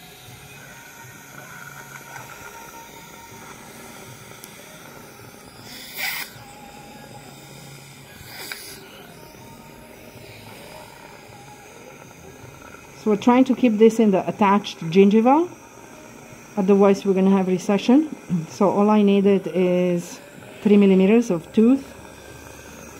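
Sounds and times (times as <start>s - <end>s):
dental equipment hum: 0.0s - 22.9s
faint background music: 0.0s - 22.9s.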